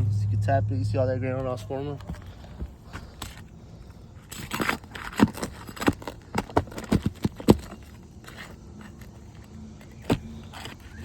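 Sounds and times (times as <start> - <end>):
knocks and scrapes on roof shingles: 2.0 - 11.0.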